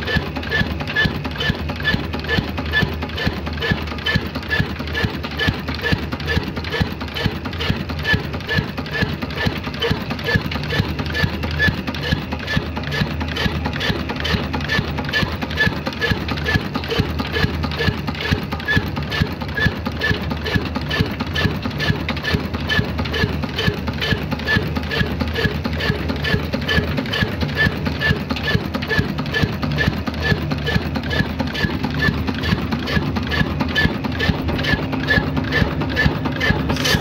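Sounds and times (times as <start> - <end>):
diesel engine knocking: 0.0 - 37.0.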